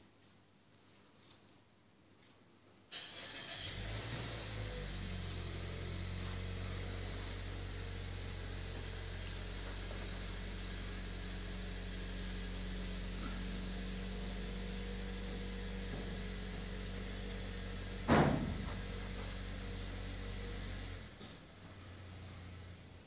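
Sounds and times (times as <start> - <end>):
steady low hum: 3.9 - 23.0.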